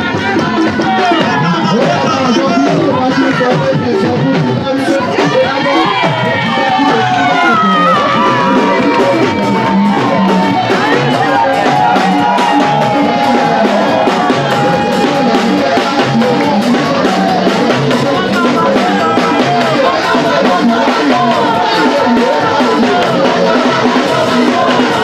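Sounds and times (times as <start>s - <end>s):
person singing: 0.0s - 25.0s
upbeat dance music: 0.0s - 25.0s.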